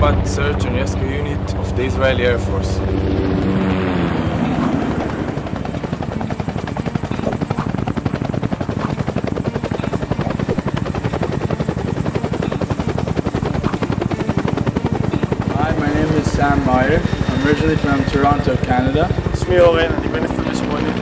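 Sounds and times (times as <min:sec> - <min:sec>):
helicopter rotor chopping: 0:00.0 - 0:21.0
high whine: 0:00.0 - 0:21.0.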